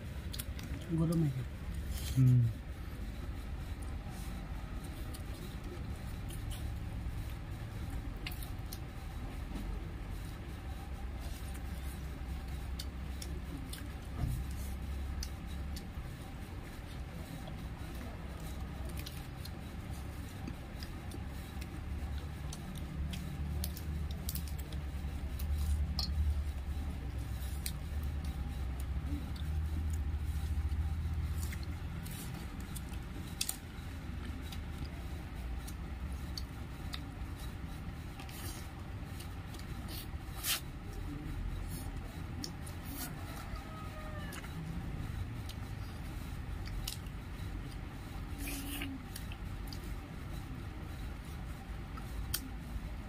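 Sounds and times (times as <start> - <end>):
chewing: 0.2 - 2.6, 3.2 - 50.0.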